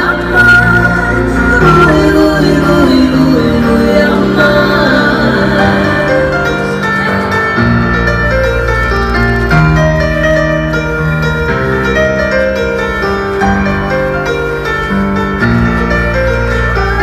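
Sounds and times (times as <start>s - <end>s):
slow grand piano piece: 0.0s - 17.0s.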